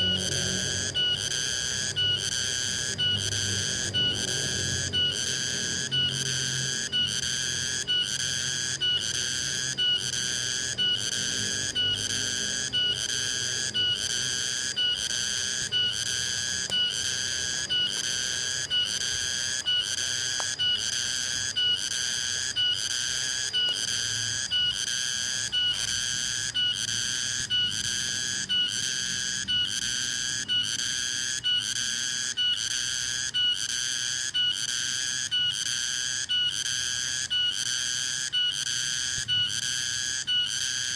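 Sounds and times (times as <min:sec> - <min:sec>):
cicada buzzing: 0:00.0 - 0:40.9.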